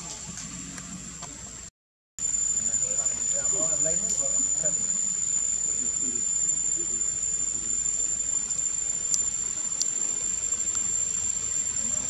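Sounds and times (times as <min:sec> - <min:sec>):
high-pitched insect drone: 0:02.2 - 0:12.0.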